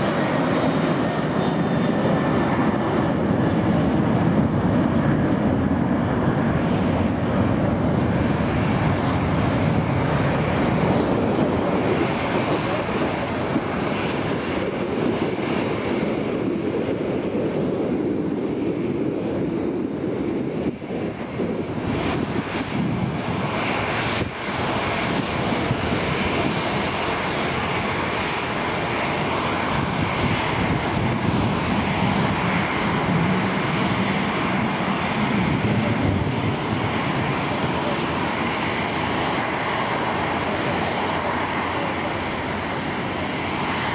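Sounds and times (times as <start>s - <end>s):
high jet whine: 0.0s - 43.9s
jet engine roar: 0.0s - 43.9s.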